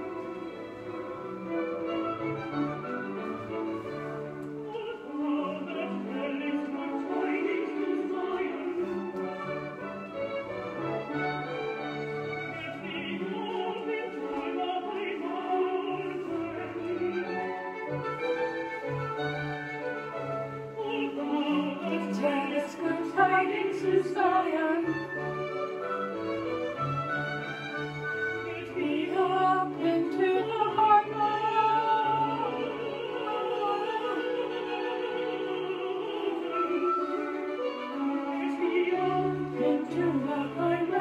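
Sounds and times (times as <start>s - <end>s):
operatic singing: 0.0s - 41.0s
orchestra playing: 0.0s - 41.0s.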